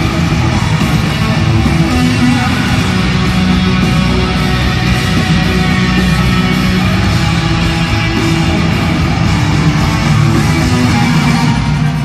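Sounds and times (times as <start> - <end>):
live band playing instrumental: 0.0 - 12.0.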